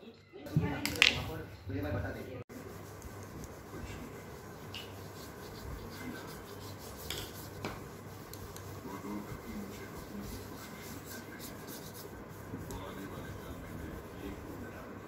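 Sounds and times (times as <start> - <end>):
paintbrush brushing on paper: 2.5 - 15.0.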